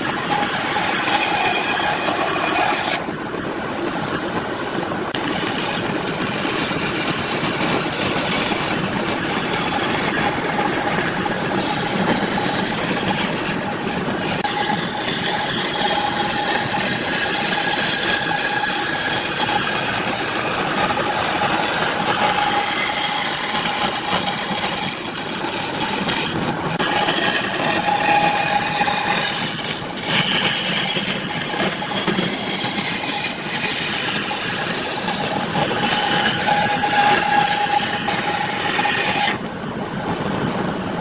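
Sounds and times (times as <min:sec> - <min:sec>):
electric power tool cutting wood: 0:00.0 - 0:03.0, 0:05.2 - 0:39.4.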